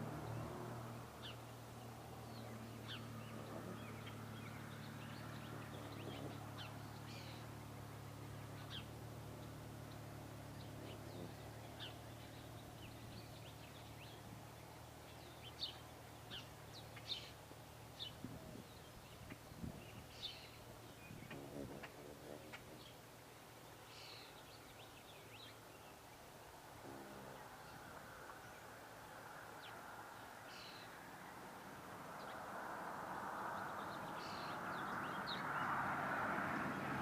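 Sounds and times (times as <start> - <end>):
small birds chirping: 0.0 - 32.5, 33.1 - 36.0.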